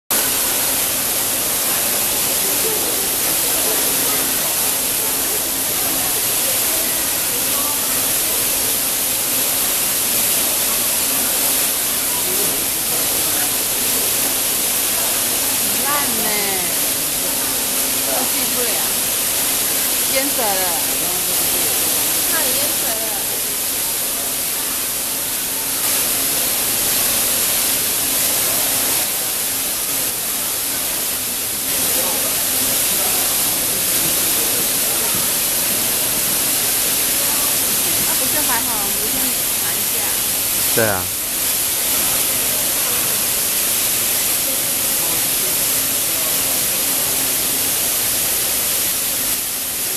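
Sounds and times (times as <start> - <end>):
torrential rain hissing: 0.1 - 49.9
water pouring off roof: 0.1 - 49.9.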